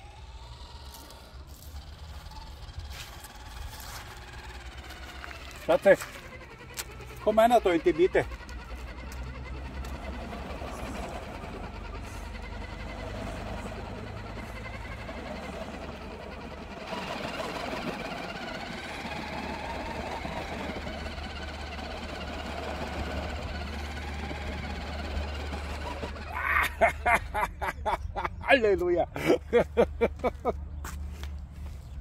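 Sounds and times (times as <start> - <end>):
electric motor and gears whirring: 0.0 - 32.0.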